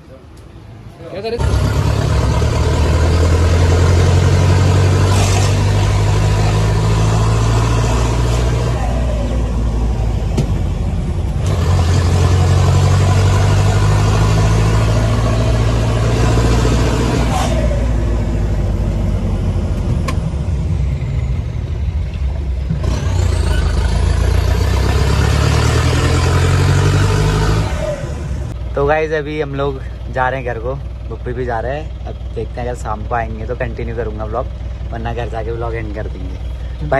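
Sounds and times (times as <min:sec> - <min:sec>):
jeep engine running: 0:00.0 - 0:36.9.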